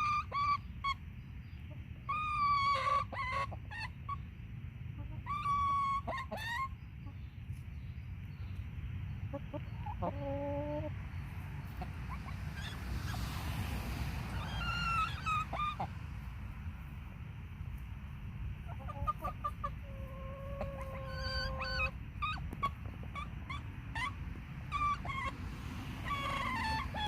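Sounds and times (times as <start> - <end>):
chickens squawking: 0.0 - 7.3, 9.2 - 13.5, 14.2 - 16.3, 18.5 - 27.0
low background noise: 0.0 - 27.0.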